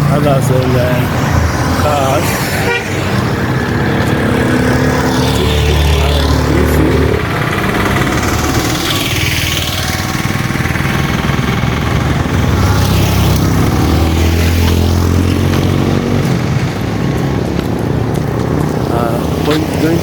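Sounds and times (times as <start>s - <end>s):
traffic rushing past: 0.0s - 20.0s
vehicle engine running: 0.0s - 20.0s.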